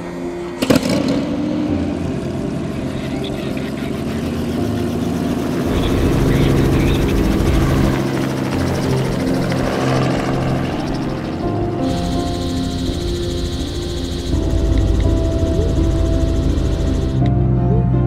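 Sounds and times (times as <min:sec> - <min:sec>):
helicopter rotor running: 0:00.0 - 0:17.9.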